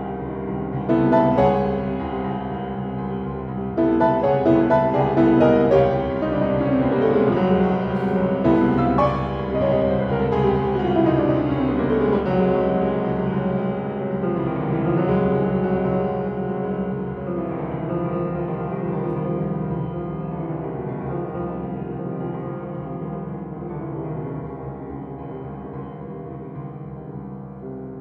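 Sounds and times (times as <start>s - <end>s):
grand piano playing: 0.0s - 28.0s.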